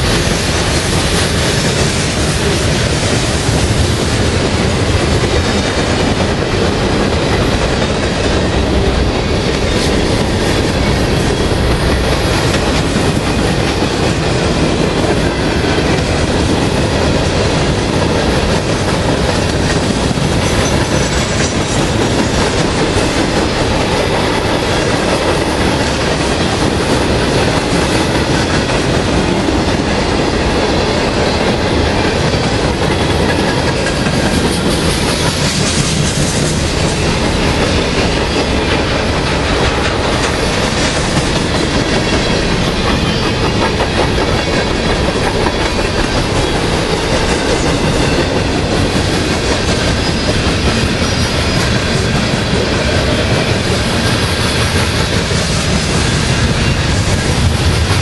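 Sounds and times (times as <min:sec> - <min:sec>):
train wheels running over rails: 0:00.0 - 0:58.0.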